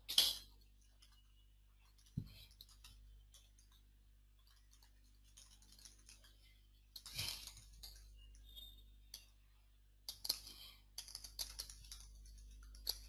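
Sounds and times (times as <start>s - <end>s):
faint keyboard typing: 0.6s - 9.3s, 11.0s - 13.0s.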